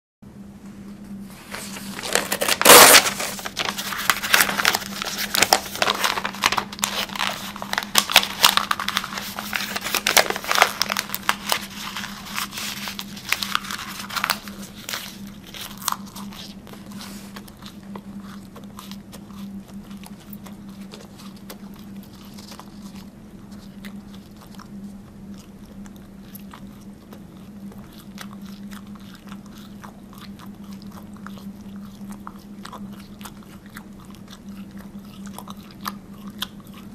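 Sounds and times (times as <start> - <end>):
mouth crunching and chewing: 3.2 - 36.9.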